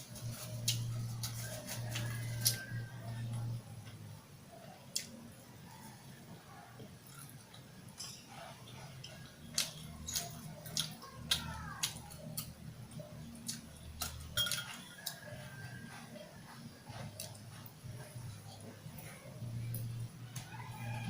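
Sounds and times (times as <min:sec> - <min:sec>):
person chewing meat: 0:00.0 - 0:03.4, 0:06.8 - 0:21.0
low background hum: 0:00.0 - 0:21.0.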